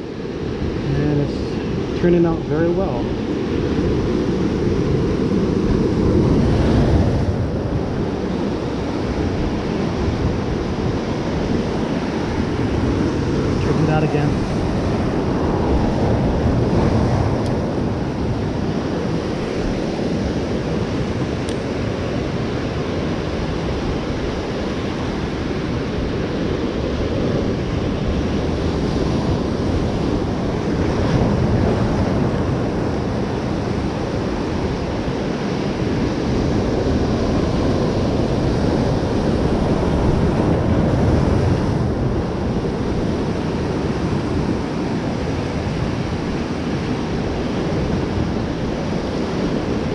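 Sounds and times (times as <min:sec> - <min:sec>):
ocean surf breaking on rocks: 0:00.0 - 0:49.9
wind buffeting microphone: 0:00.0 - 0:49.9.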